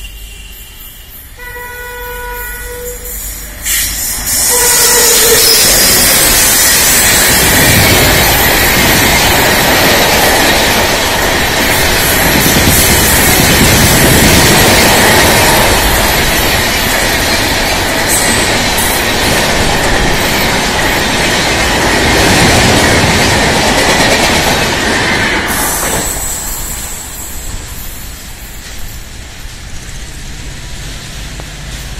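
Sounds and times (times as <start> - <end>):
train passing on rails: 0.0 - 31.9.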